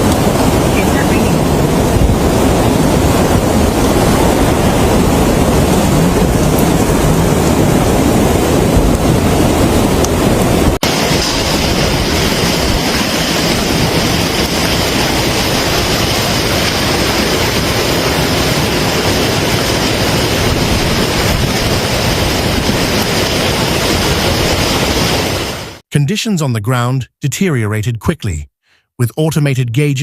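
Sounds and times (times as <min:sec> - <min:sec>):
floodwater rushing roar: 0:00.0 - 0:25.8.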